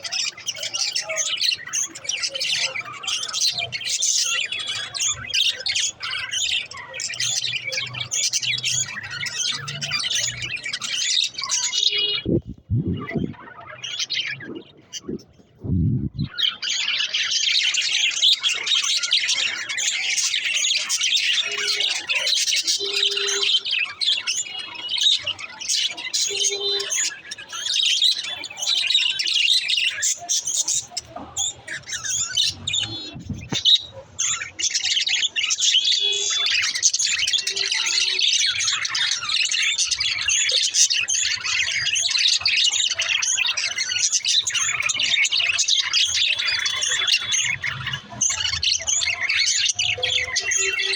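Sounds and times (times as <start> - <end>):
budgerigars chattering: 0.0 - 15.6, 16.2 - 50.9.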